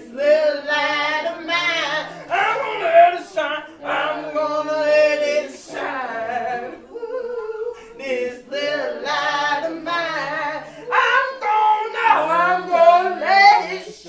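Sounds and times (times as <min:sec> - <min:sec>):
woman singing a cappella: 0:00.0 - 0:14.0.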